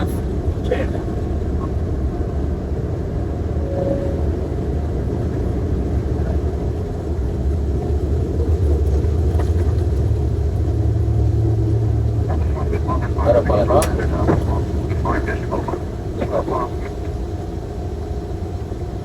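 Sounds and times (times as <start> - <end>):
jet engines deep rumble: 0.0 - 19.0.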